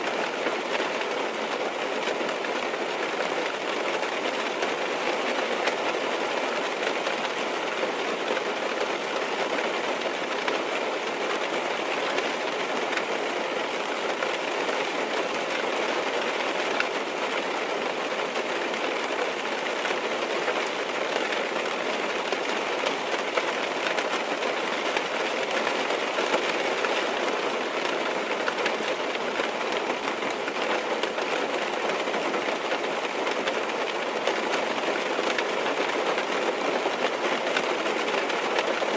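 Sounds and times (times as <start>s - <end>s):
rain on car roof: 0.0s - 38.9s.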